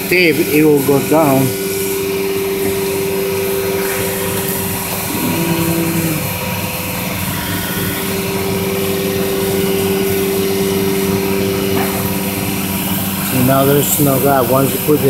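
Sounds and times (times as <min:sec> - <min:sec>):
low tone: 0:00.0 - 0:15.0
vacuum pump humming: 0:00.0 - 0:15.0.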